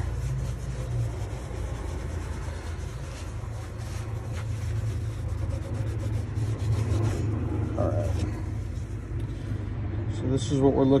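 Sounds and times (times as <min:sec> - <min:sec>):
cloth rubbing leather: 0:00.0 - 0:09.2.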